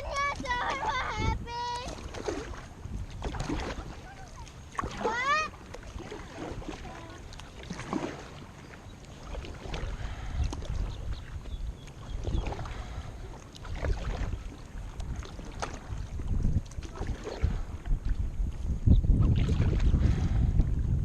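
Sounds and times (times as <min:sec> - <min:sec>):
wind rumbling on microphone: 0:00.0 - 0:08.5, 0:09.1 - 0:21.0
paddle strokes splashing in water: 0:00.0 - 0:21.0.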